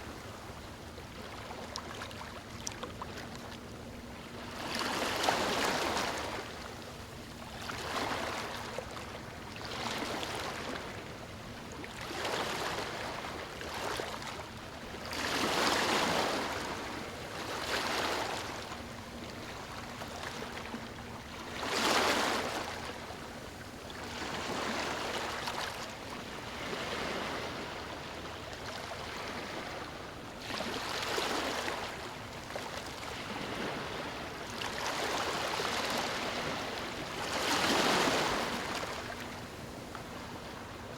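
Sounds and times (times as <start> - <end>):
small waves washing up a beach: 0.0 - 40.9.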